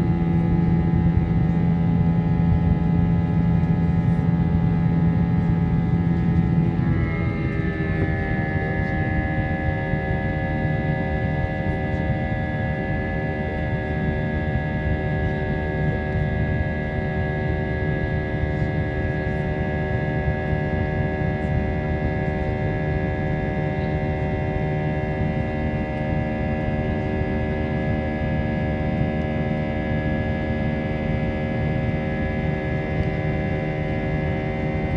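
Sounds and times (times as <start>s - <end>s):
jet engine cabin rumble and whine: 0.0s - 34.9s.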